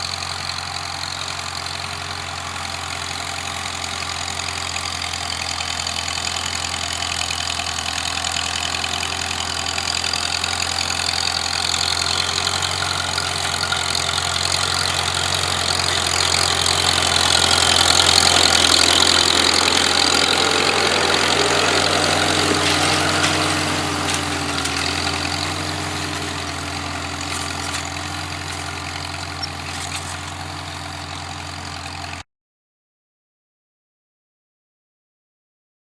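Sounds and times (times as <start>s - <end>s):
tractor engine running: 0.0s - 32.2s.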